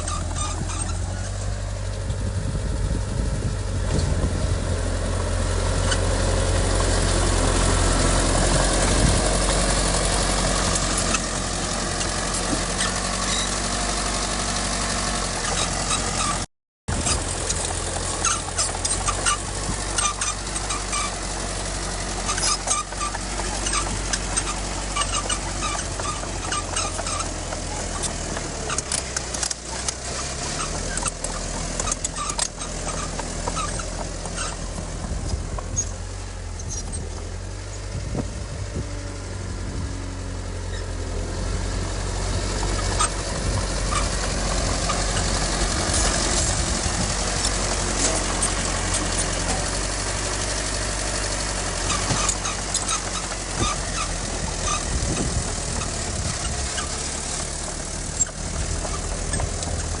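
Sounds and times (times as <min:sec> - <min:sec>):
heavy diesel machinery engine: 0:00.0 - 1:00.0.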